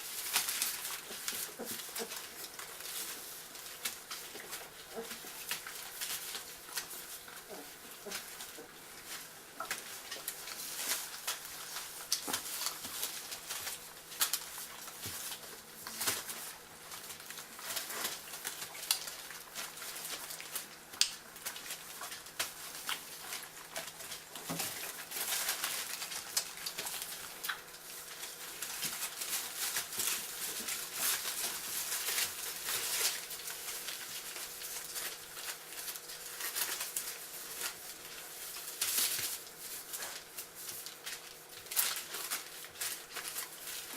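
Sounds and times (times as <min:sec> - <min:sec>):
puppies clicking and rustling: 0:00.0 - 0:43.9.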